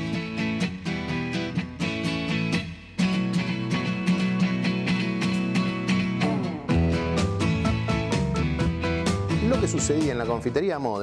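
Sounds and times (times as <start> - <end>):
instrumental music with guitar and beat: 0.0 - 11.0.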